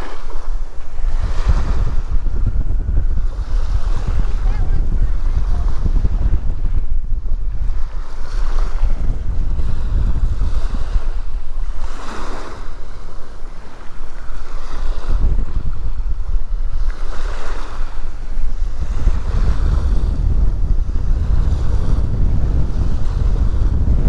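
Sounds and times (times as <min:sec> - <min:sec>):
surf lapping on sandy beach: 0:00.0 - 0:24.0
wind noise on microphone: 0:00.0 - 0:24.0.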